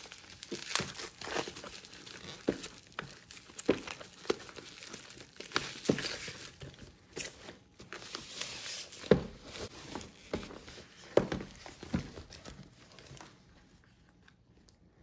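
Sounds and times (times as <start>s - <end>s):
plastic film crinkling and tearing: 0.0s - 13.4s.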